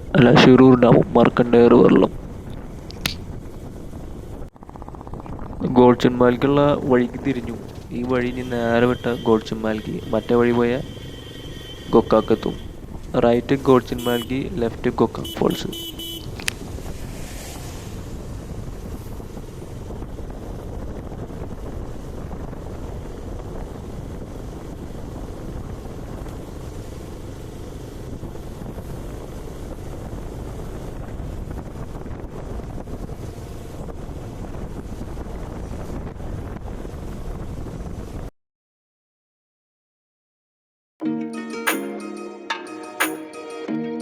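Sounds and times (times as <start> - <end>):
wind rushing over microphone: 0.0 - 15.3, 16.3 - 38.3
motorcycle engine and road noise: 0.0 - 38.3.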